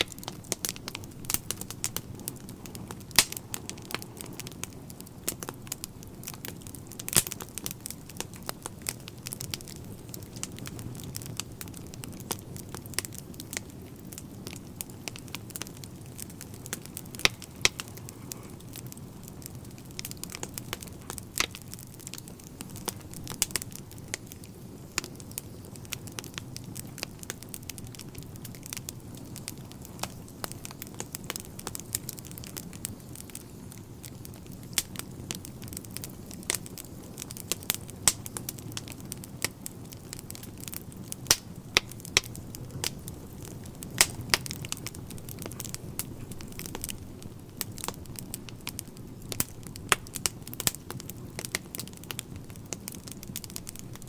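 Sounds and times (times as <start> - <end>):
fire flames rumbling: 0.0 - 54.0
logs crackling and popping: 0.0 - 54.0.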